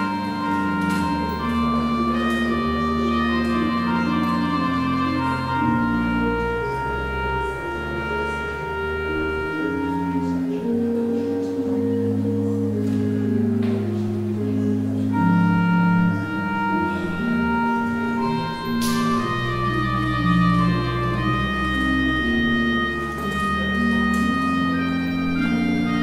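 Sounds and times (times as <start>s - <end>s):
church organ playing sustained notes: 0.0s - 26.0s.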